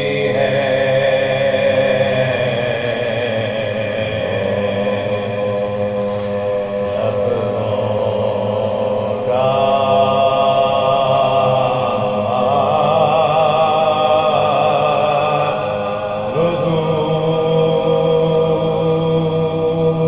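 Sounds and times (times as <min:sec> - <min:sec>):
men chanting unaccompanied: 0:00.0 - 0:20.0.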